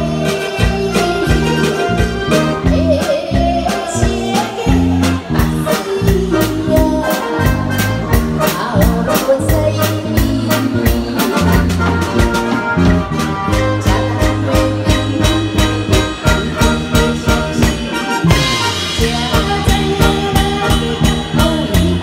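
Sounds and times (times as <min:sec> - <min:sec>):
woman singing into microphone: 0:00.0 - 0:11.9, 0:13.5 - 0:17.9, 0:18.7 - 0:22.0
drum kit beat: 0:00.0 - 0:22.0
live band playing: 0:00.0 - 0:22.0.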